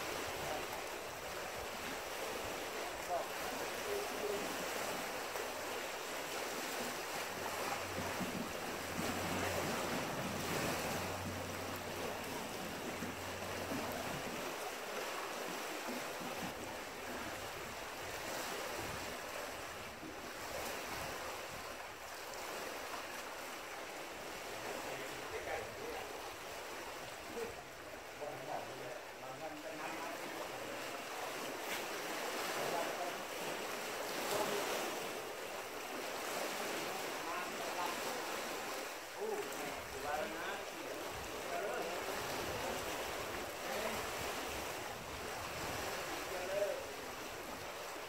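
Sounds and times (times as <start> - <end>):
waves lapping against rocks: 0.0 - 48.0.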